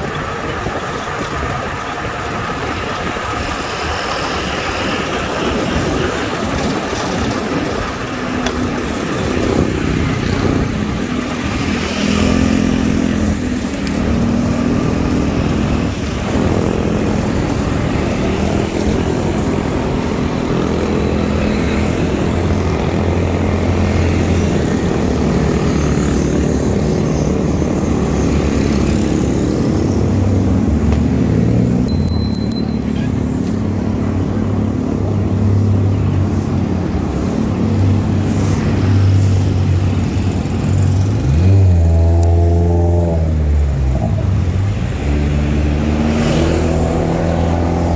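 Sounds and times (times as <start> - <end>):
motorcycle engines running: 0.0 - 47.9
road noise: 0.0 - 47.9
wind: 0.0 - 47.9.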